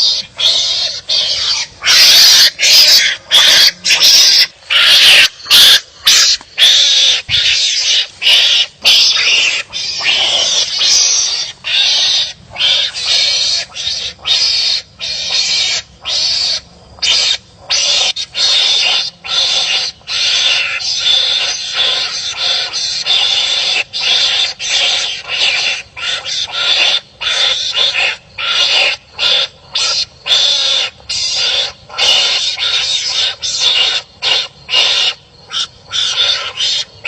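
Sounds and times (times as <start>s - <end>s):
animals barking harshly: 0.0s - 37.0s.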